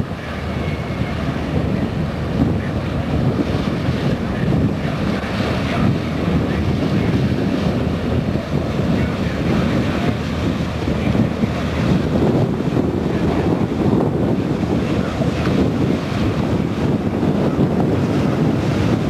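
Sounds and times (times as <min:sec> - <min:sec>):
passing boat wash: 0:00.0 - 0:19.0
sea: 0:00.0 - 0:19.0
wind buffeting microphone: 0:00.0 - 0:19.0.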